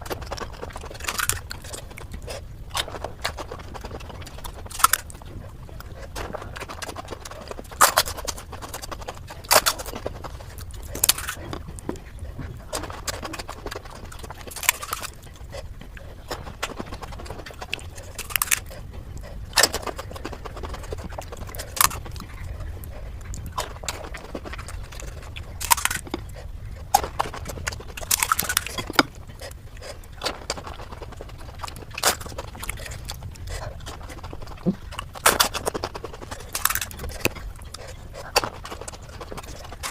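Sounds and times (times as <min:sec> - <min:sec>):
crunching fried shells: 0:00.0 - 0:39.9
steady low hum: 0:00.0 - 0:39.9.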